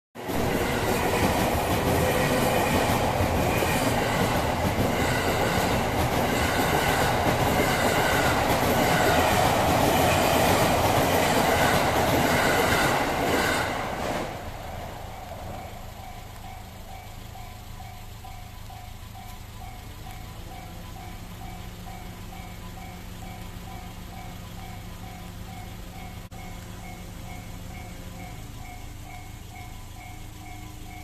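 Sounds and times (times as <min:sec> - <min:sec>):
train wheels on rails: 0:00.2 - 0:31.0.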